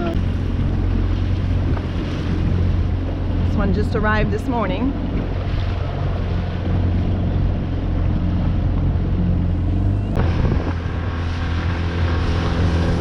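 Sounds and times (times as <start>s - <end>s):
outboard motor running: 0.0s - 13.0s
water noise: 0.0s - 13.0s
wind: 0.0s - 13.0s.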